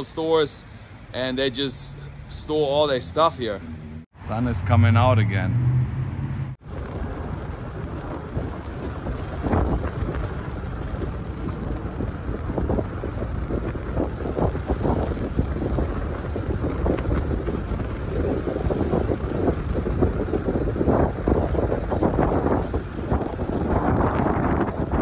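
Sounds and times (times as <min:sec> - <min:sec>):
car driving rumble: 0:00.0 - 0:25.0
wind buffeting microphone: 0:04.4 - 0:25.0.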